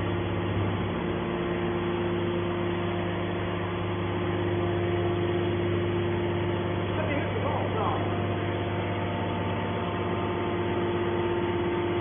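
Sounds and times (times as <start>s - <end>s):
constant whine: 0.0s - 12.0s
motor and pump humming: 0.0s - 12.0s.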